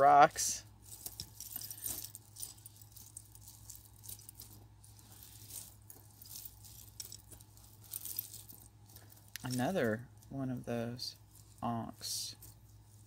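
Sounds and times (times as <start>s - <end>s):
low steady hum: 0.0s - 13.0s
necklace chains and beads clinking: 0.0s - 13.0s.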